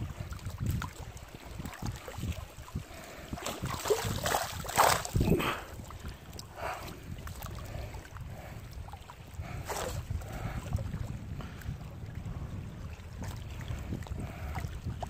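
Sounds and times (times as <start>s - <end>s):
water splashing and lapping: 0.0s - 15.0s
wind buffeting microphone: 0.0s - 15.0s.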